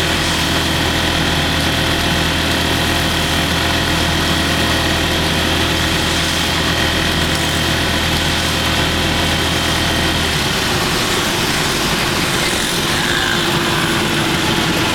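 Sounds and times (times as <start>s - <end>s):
vehicle engine hum: 0.0s - 14.9s.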